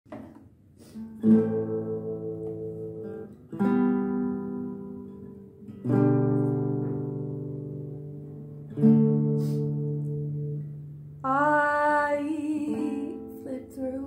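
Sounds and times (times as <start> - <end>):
acoustic guitar strummed chords: 0.9 - 14.0.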